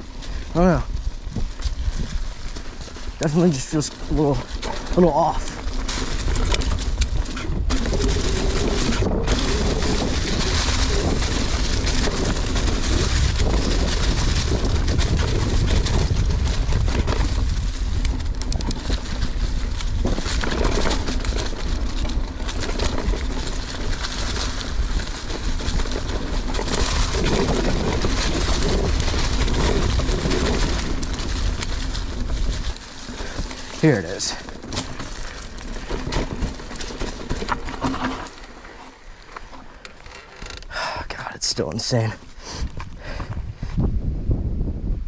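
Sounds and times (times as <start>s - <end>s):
wind rumble on microphone: 0.0s - 38.4s, 41.1s - 45.0s
bike tyres on dirt: 0.0s - 45.0s
bike knocks and rattles: 0.3s - 40.8s.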